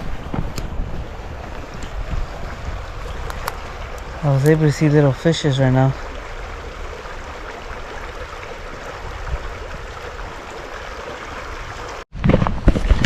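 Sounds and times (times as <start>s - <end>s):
creek water running: 0.0s - 12.1s.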